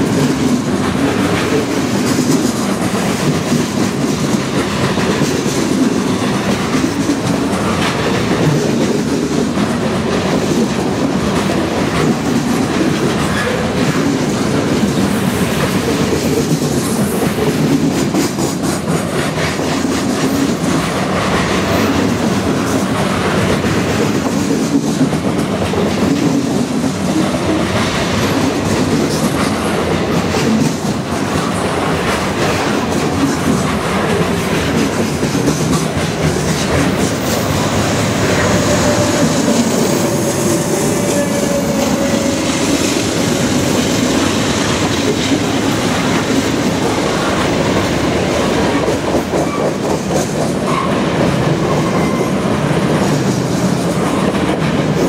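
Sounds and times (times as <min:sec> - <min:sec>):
diesel locomotive passing: 0:00.0 - 0:55.0
steel wheels rumbling on rail: 0:00.0 - 0:55.0.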